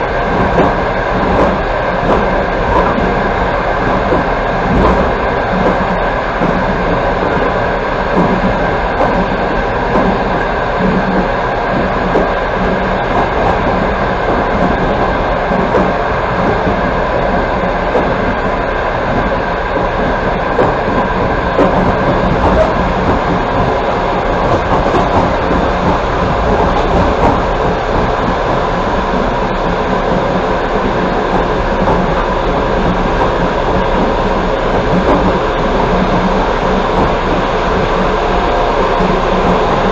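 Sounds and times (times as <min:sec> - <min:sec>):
train wheels rolling on rails: 0:00.0 - 0:39.9
wheels clattering over rail joints: 0:00.0 - 0:39.9.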